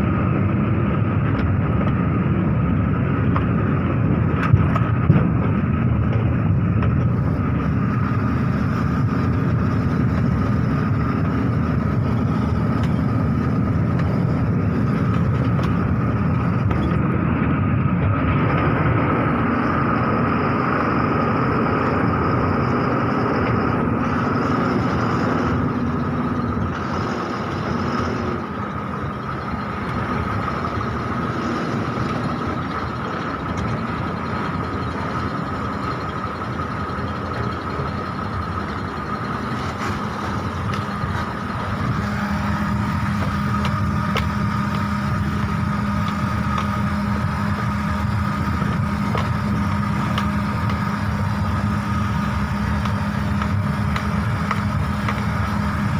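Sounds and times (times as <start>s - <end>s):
heavy truck engine whining: 0.0s - 55.9s.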